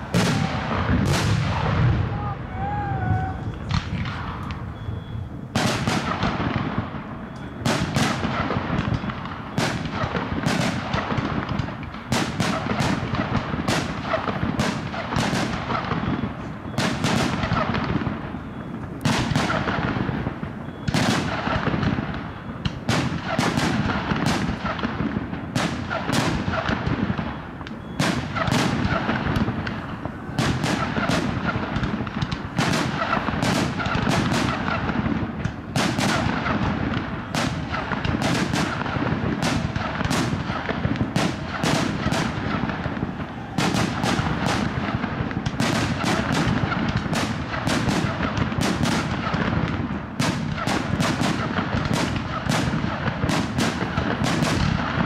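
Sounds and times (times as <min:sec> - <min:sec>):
continuous noisy rumble: 0:00.0 - 0:55.0
fireworks bursting: 0:00.0 - 0:55.0.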